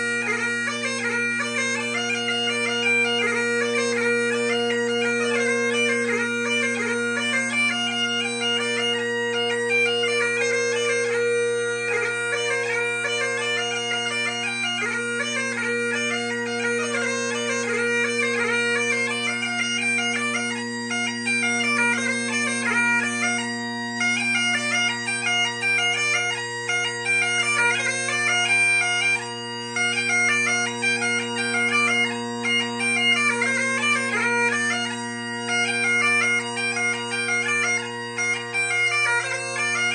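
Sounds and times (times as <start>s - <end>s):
bagpipe chanter melody: 0.0s - 39.9s
bagpipe drones humming: 0.0s - 39.9s.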